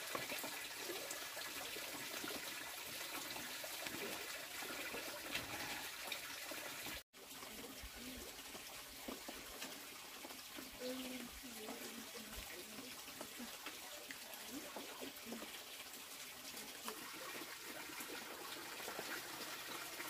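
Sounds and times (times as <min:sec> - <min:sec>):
water splashing in plastic basin: 0:00.0 - 0:20.0.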